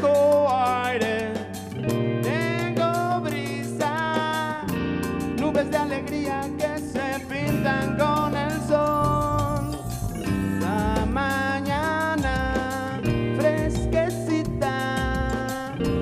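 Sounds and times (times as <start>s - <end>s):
live rock band playing: 0.0s - 16.0s
person singing: 0.0s - 16.0s.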